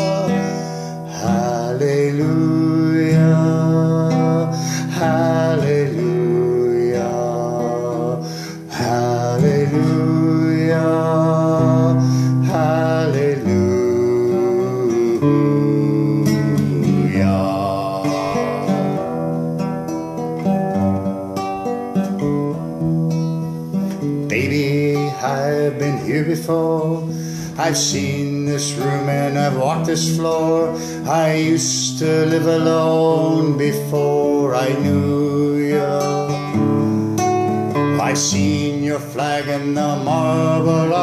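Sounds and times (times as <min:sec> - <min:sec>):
man singing: 0:00.0 - 0:19.4, 0:24.2 - 0:41.0
acoustic guitar strumming: 0:00.0 - 0:41.0.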